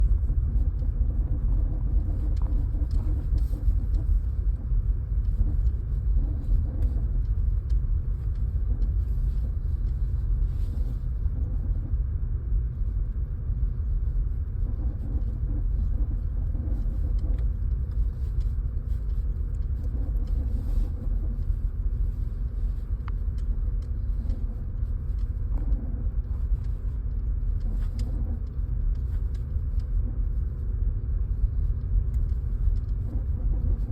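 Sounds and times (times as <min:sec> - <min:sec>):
car engine low rumble: 0:00.0 - 0:33.9.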